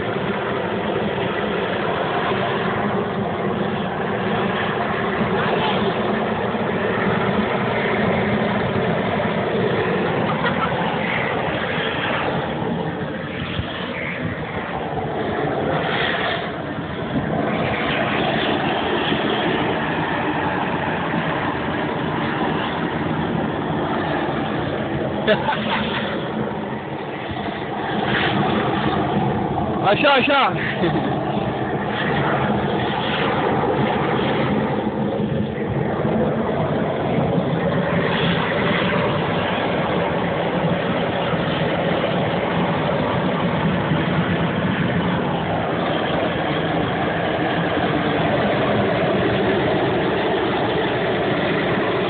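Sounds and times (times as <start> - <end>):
gas torch rushing: 0.0 - 52.0.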